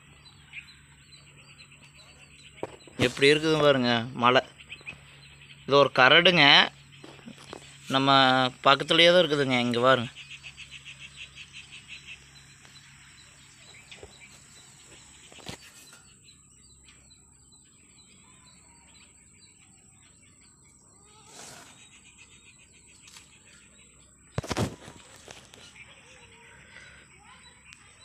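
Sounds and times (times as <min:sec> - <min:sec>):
bird chirps: 0:00.0 - 0:28.0.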